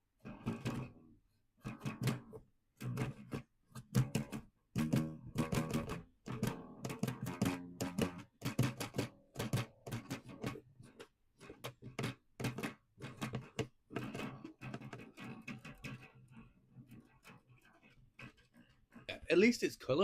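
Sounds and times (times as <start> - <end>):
elastic band guitar strumming: 1.6 - 19.5.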